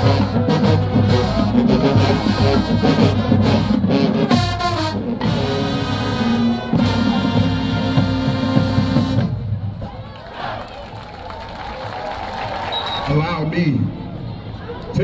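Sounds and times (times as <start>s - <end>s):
marching band playing: 0.0s - 13.5s.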